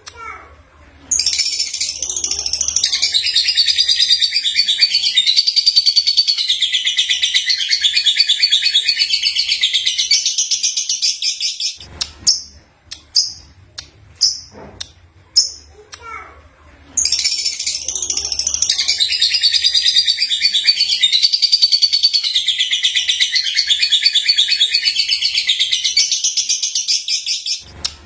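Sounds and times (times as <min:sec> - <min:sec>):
lovebird warbling and chirping: 0:01.1 - 0:13.4, 0:17.0 - 0:27.7.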